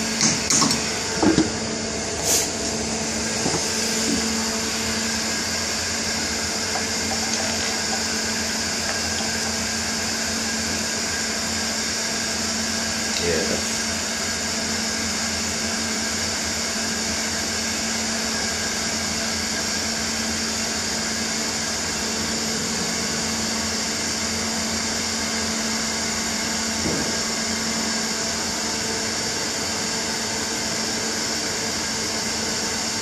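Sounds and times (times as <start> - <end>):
machine hum with hiss: 0.0 - 33.0.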